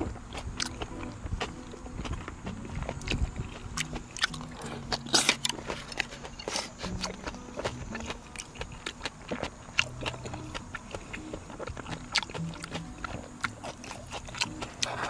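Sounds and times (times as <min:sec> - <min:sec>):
chewing with mouth clicks: 0:00.0 - 0:15.0
soft background music: 0:00.0 - 0:15.0.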